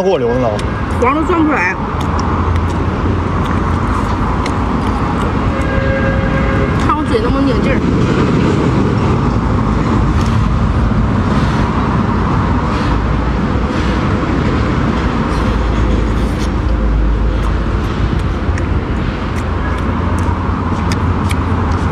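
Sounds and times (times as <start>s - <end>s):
traffic rumble: 0.0s - 21.9s.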